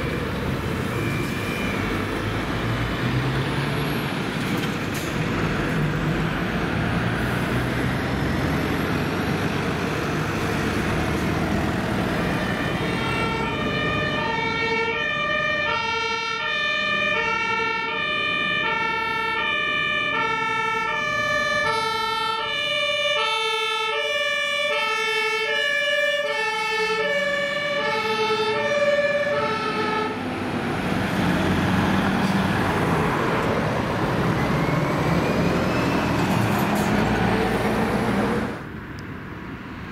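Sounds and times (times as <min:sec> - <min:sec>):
two-tone fire engine siren: 0:00.0 - 0:04.4, 0:06.2 - 0:38.7
lorry engines: 0:00.0 - 0:39.9
road traffic: 0:00.0 - 0:39.9.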